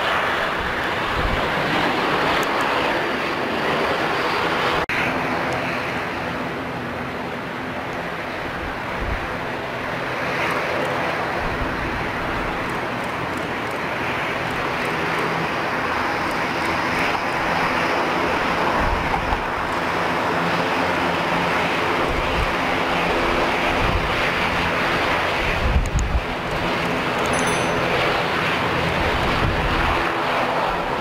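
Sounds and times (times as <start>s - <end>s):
wind buffeting microphone: 0.0s - 4.9s, 8.3s - 27.2s, 27.8s - 31.0s
jet engine noise: 0.0s - 31.0s.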